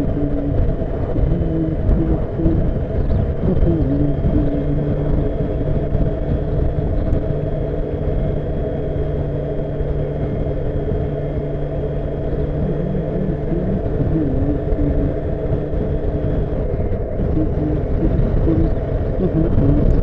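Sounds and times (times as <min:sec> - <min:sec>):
low wind rumble: 0:00.0 - 0:20.0
motorcycle engine cruising: 0:00.0 - 0:20.0.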